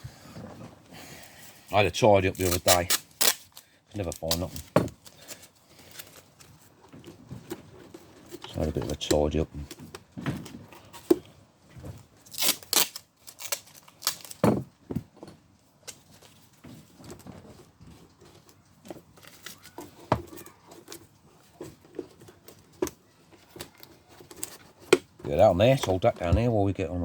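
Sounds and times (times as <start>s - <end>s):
rummaging through tools: 3.5s - 12.3s, 13.6s - 26.6s.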